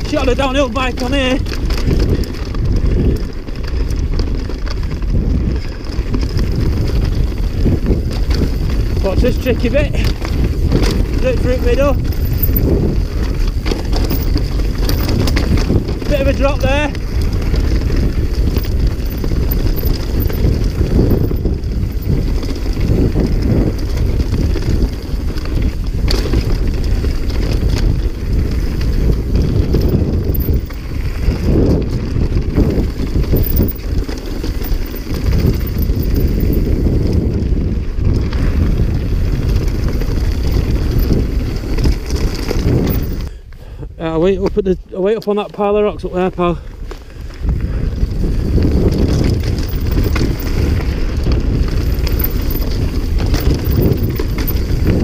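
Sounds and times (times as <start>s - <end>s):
bike rattling over rocks: 0.0s - 43.4s, 44.1s - 55.0s
wind buffeting microphone: 0.0s - 55.0s.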